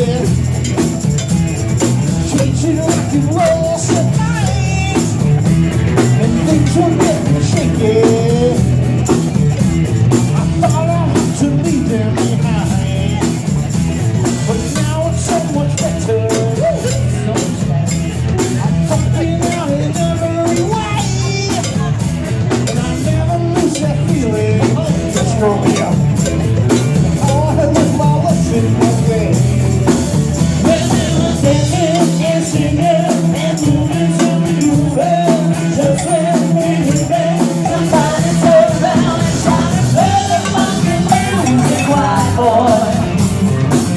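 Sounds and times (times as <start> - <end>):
person singing: 0.0 - 1.0, 2.0 - 8.9, 10.3 - 43.9
bass short separated notes: 0.0 - 43.9
rock band playing: 0.0 - 43.9.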